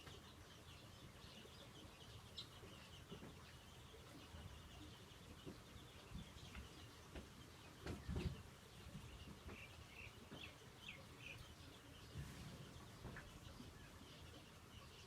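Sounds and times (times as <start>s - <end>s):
low outdoor background: 0.0s - 15.0s.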